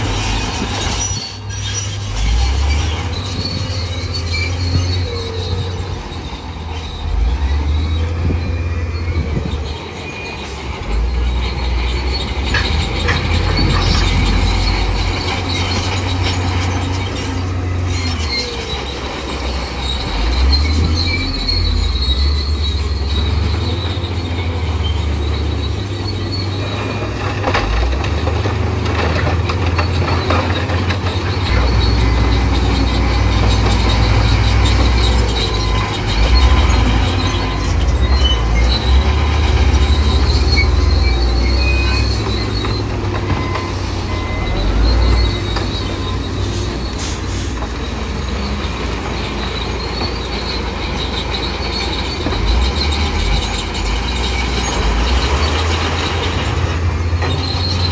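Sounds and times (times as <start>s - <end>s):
diesel engine rumble: 0.0s - 57.9s
steel tracks squealing: 0.0s - 57.9s.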